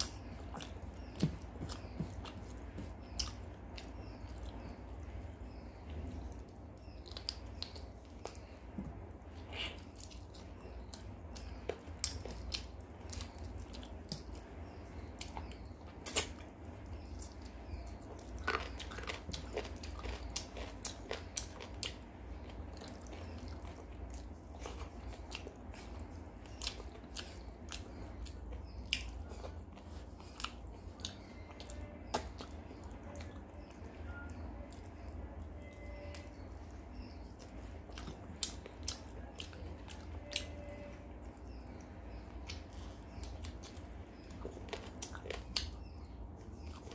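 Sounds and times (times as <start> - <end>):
chewing with wet mouth clicks: 0.0 - 46.9
steady low hum: 0.0 - 46.9.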